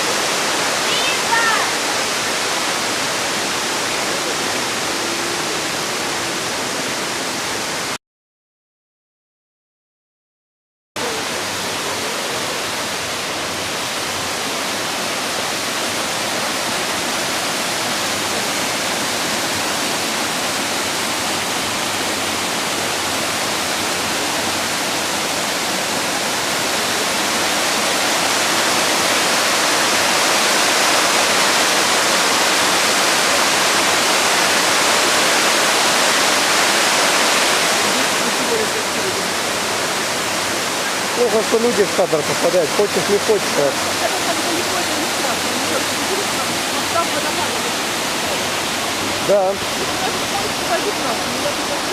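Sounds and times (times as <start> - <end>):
waterfall rushing: 0.0 - 8.0, 11.0 - 51.9.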